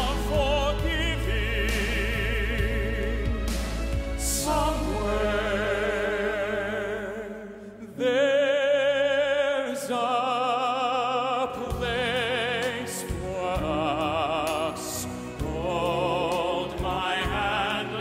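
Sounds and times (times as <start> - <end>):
tenors singing opera: 0.0 - 18.0.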